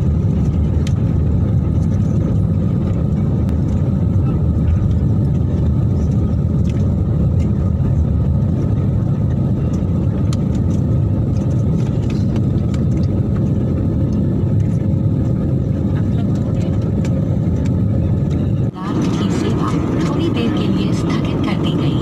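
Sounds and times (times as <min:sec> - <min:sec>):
airliner cabin engine roar: 0:00.0 - 0:22.0.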